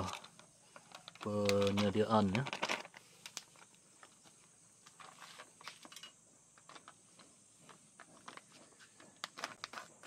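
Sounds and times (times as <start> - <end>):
plastic packaging rustling: 0.0 - 10.0.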